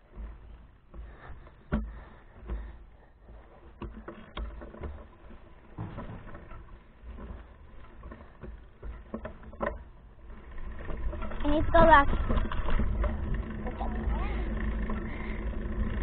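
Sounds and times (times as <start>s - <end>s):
bicycle knocks and rattles: 0.0s - 16.0s.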